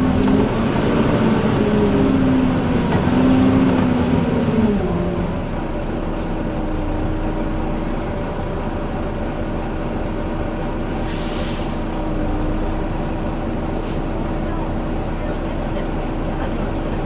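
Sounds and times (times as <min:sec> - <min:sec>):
bus engine whining: 0:00.0 - 0:17.0.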